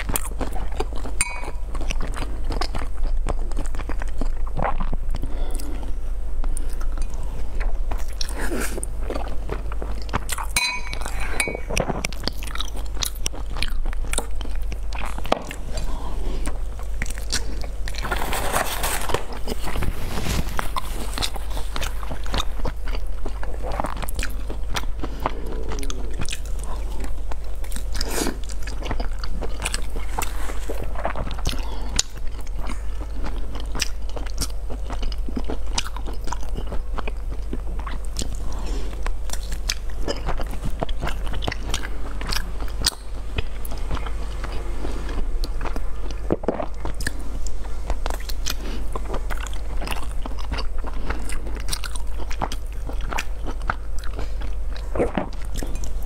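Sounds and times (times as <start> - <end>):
wet chewing with mouth clicks: 0.0 - 56.0.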